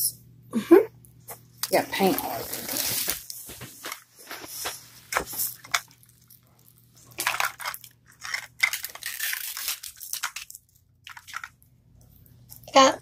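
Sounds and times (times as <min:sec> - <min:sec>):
plastic crinkling and rustling: 0:01.6 - 0:12.7.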